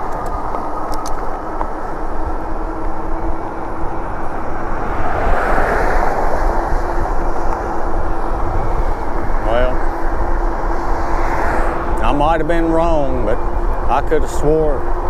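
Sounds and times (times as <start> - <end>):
steady hum: 0.0 - 15.0
wind rushing over microphone: 0.0 - 15.0.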